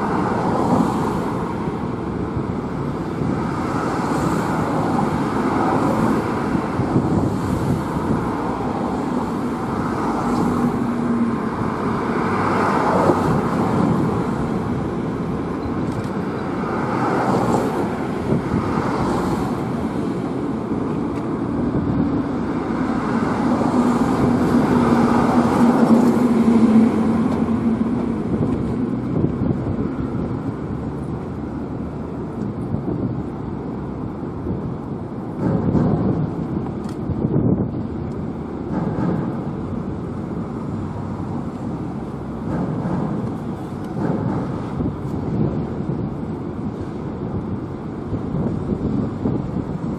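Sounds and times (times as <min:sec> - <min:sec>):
low engine hum: 0:00.0 - 0:49.9
road traffic passing: 0:00.0 - 0:49.9.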